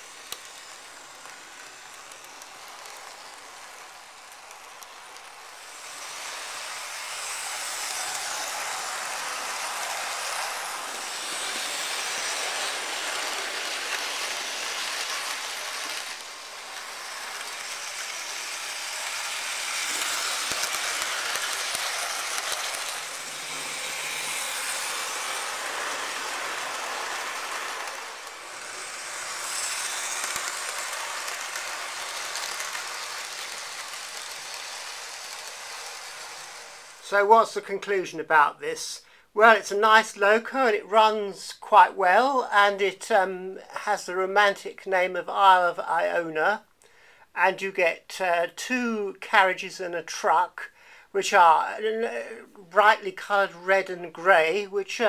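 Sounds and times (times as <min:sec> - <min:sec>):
model trains rolling on track: 0:00.0 - 0:43.3, 0:49.4 - 0:55.0.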